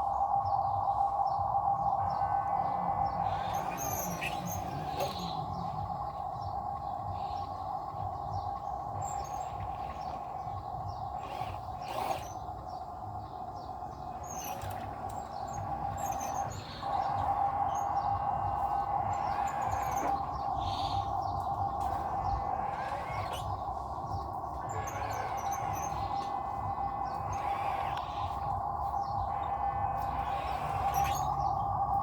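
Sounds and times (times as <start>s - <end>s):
birds chirping: 0.0s - 32.0s
droning hum: 0.0s - 32.0s.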